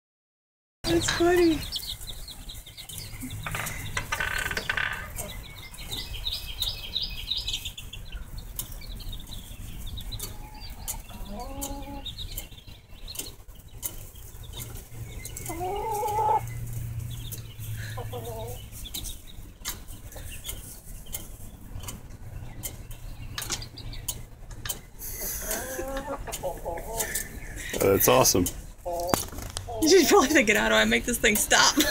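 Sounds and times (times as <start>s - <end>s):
hens clucking: 0.9s - 31.9s.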